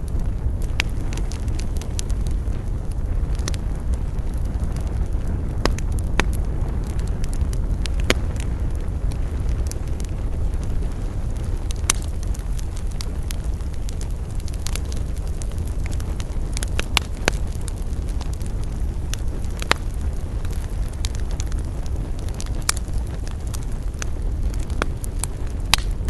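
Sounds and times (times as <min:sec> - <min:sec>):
campfire crackling and popping: 0:00.0 - 0:26.0
low fire rumble: 0:00.0 - 0:26.0.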